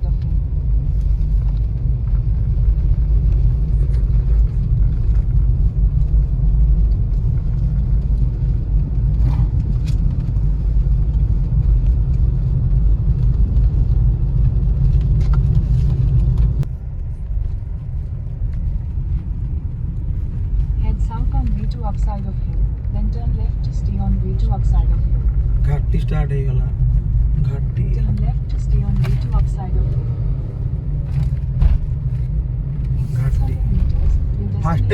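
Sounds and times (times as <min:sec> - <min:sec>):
car driving rumble: 0:00.0 - 0:34.9.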